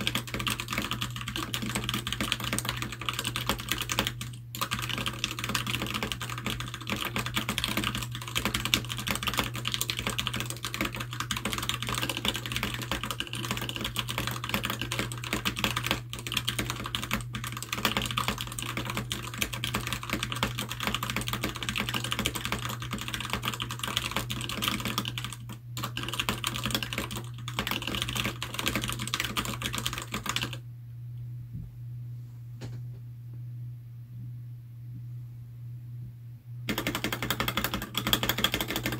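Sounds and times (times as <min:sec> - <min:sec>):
mechanical keyboard typing: 0:00.0 - 0:30.6, 0:36.7 - 0:38.9.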